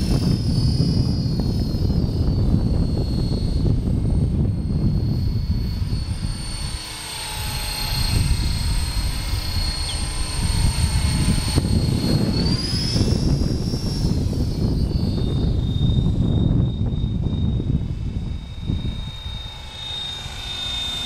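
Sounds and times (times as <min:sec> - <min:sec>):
rc helicopter motor whine: 0:00.0 - 0:21.0
wind rumble on microphone: 0:00.0 - 0:21.0.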